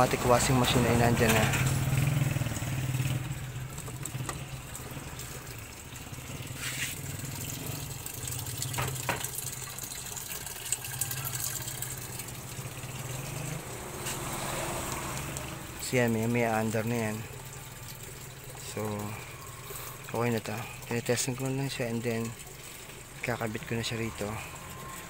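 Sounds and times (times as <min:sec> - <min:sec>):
water pouring into washing machine tub: 0:00.0 - 0:25.0.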